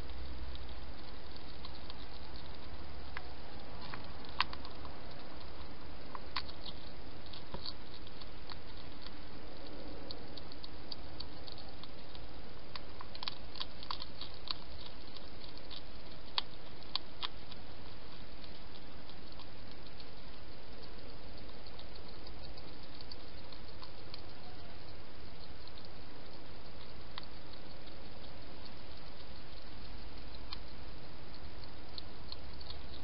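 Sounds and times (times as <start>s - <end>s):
hedgehog mouth clicks and smacks: 0.0s - 33.0s.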